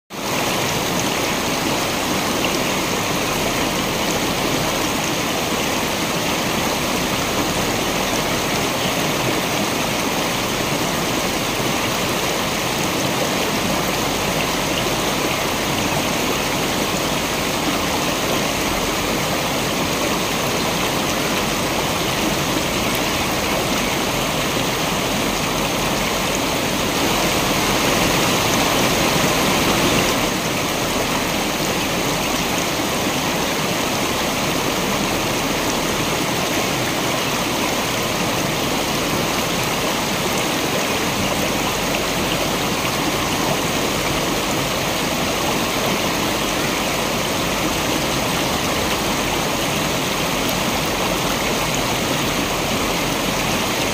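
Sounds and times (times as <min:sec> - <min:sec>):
waterfall rushing: 0:00.1 - 0:53.9.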